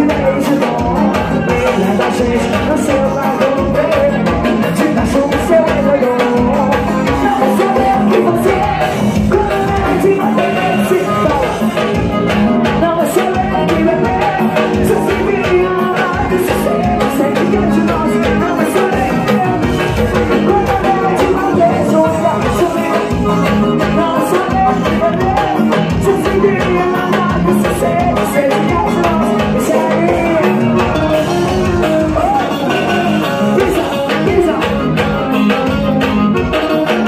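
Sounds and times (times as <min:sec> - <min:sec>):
live band playing: 0:00.0 - 0:37.0.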